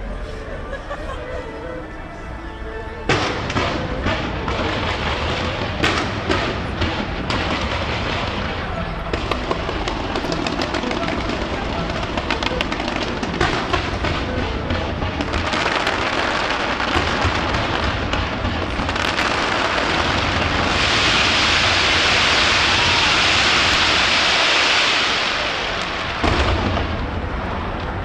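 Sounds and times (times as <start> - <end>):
firework sharp bang: 3.1 - 27.8
firework booms: 3.1 - 28.0
firework crackle: 3.1 - 28.0.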